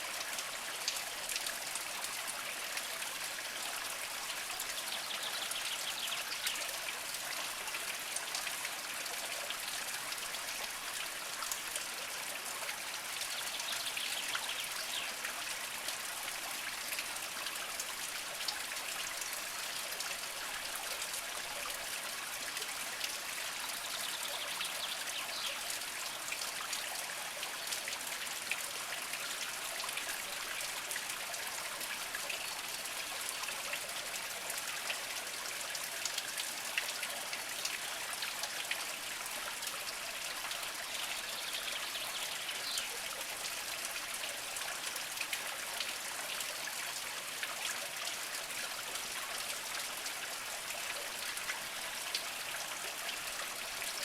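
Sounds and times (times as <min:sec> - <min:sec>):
spring water trickling over rocks: 0:00.0 - 0:54.0.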